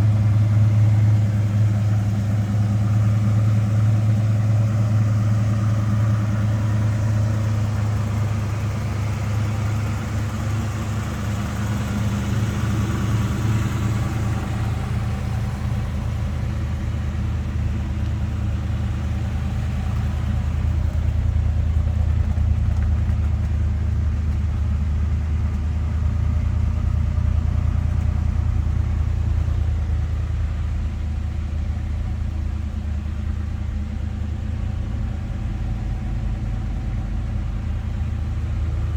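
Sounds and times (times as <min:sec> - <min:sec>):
engine rumbling through exhaust: 0:00.0 - 0:38.9.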